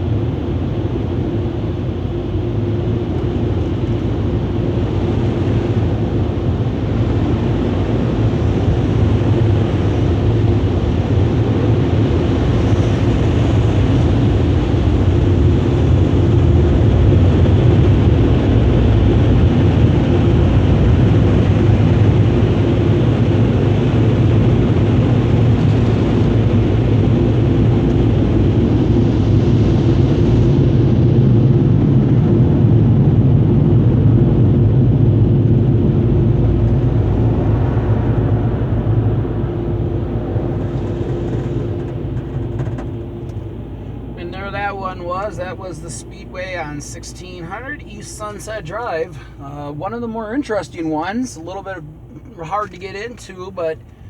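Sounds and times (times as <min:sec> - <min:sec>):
car wash blower dryers: 0:00.0 - 0:54.0.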